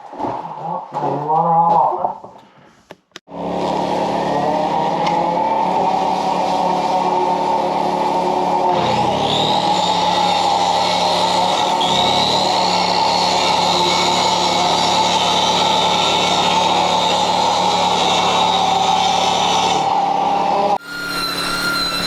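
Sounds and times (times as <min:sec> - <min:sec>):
belt sander on wood: 0:03.3 - 0:22.0.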